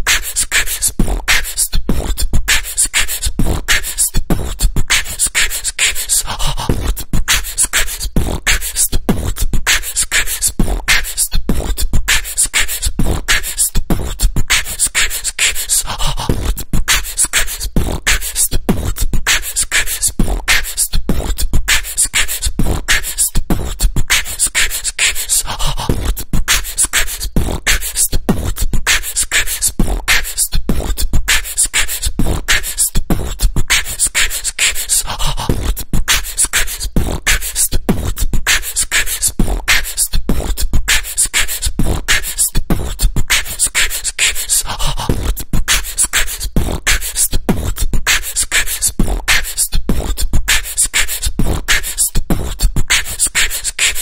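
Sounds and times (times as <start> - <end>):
vocal beatbox rhythm: 0.0 - 54.0.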